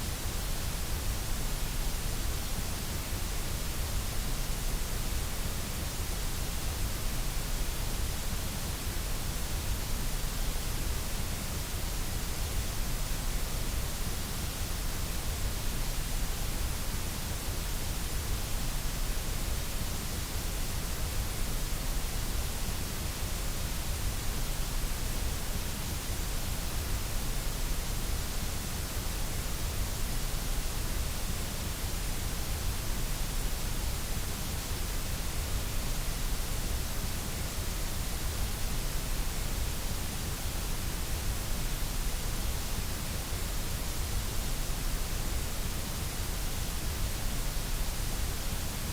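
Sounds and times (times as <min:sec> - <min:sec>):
steady white noise hiss: 0:00.0 - 0:48.9.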